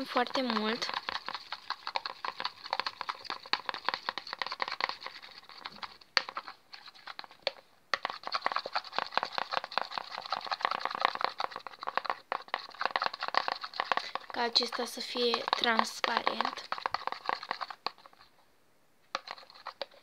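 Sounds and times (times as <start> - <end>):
sticky clicking and crackling: 0.0 - 18.2.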